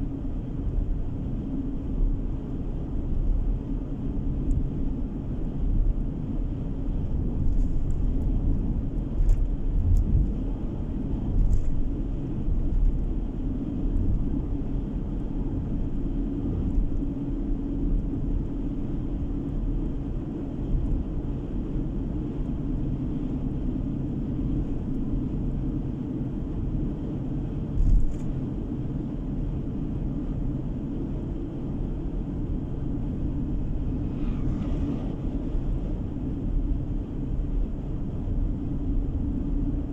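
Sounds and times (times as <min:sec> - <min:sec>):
car road noise from cabin: 0:00.2 - 0:39.9.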